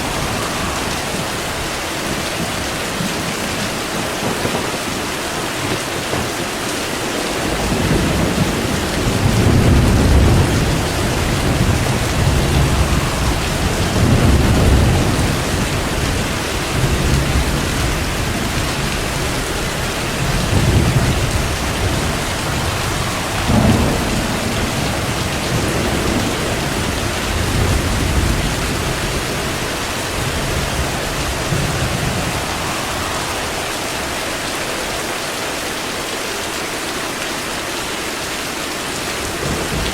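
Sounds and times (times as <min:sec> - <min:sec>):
thunder rumbling: 0:00.0 - 0:35.8, 0:39.2 - 0:39.9
heavy rain: 0:00.0 - 0:39.9.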